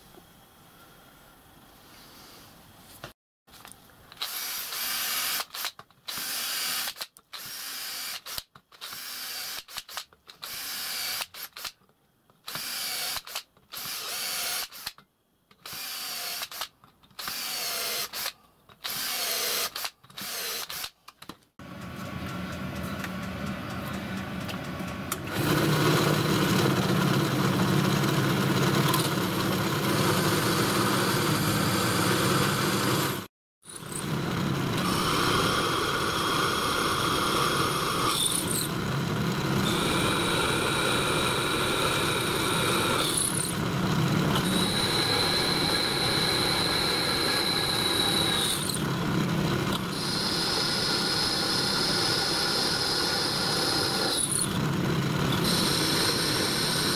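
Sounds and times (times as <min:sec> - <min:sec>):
drill boring into metal: 0:04.2 - 0:11.7, 0:12.5 - 0:15.0, 0:15.6 - 0:20.9, 0:25.3 - 0:38.8, 0:39.4 - 0:54.6, 0:55.2 - 0:56.9.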